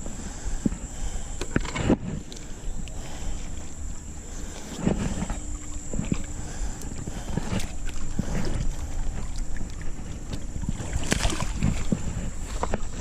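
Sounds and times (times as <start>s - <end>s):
wind rumbling on microphone: 0.0s - 13.0s
microphone handling noise: 1.4s - 13.0s.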